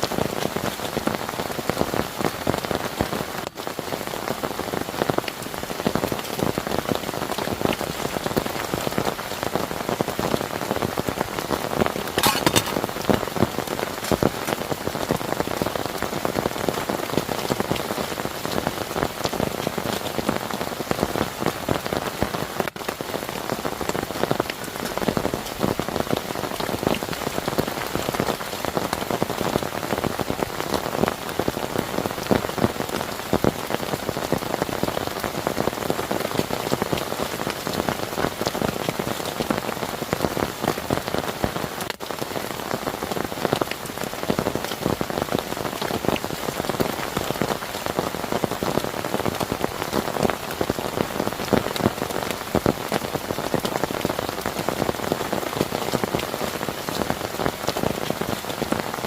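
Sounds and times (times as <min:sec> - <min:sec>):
heavy rain on a surface: 0:00.0 - 0:59.0.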